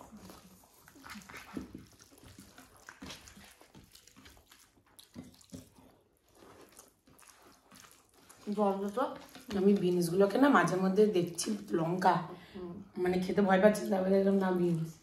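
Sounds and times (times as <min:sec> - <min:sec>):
wet eating sounds: 0:00.0 - 0:12.8, 0:13.8 - 0:15.0.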